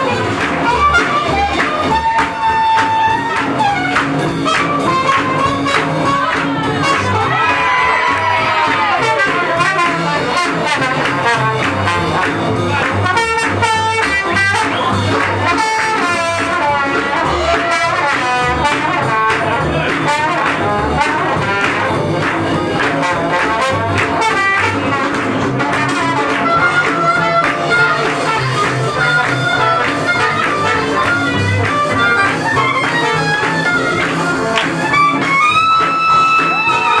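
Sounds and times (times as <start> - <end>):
swing jazz band playing: 0.0 - 37.0.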